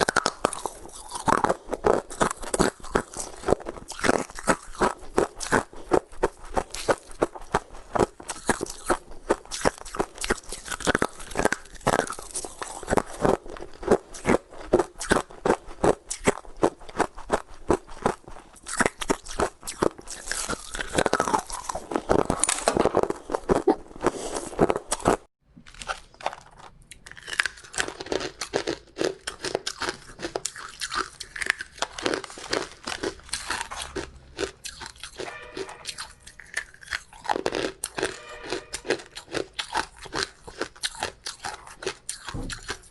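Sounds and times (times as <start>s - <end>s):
ice crunching while chewed: 0.0s - 42.9s.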